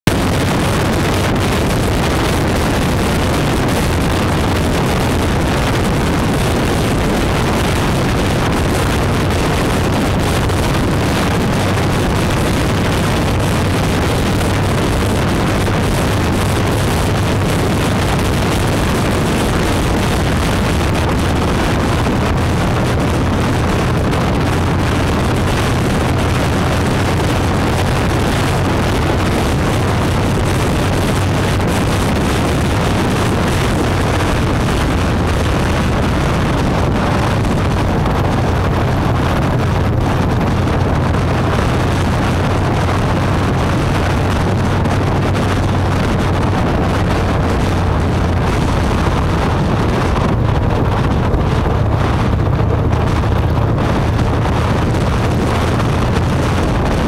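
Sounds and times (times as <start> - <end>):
motorcycle engine drone: 0.0 - 57.0
wind buffeting microphone: 0.0 - 57.0.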